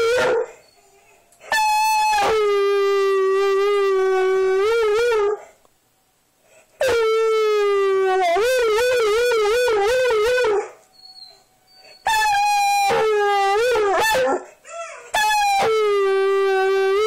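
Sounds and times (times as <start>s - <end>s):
dog howling: 0.0s - 5.4s, 7.8s - 17.0s.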